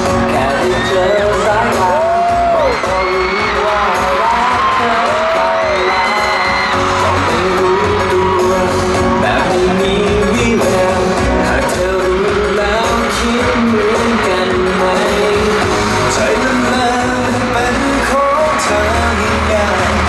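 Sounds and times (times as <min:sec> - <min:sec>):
band with steady beat: 0:00.0 - 0:20.0
person singing: 0:00.0 - 0:20.0.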